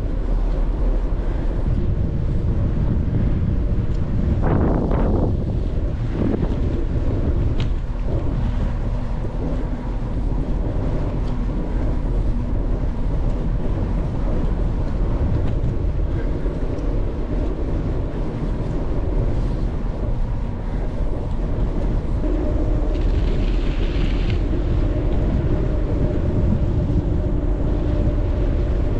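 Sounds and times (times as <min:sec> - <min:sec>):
wind rumble on microphone: 0:00.0 - 0:28.9.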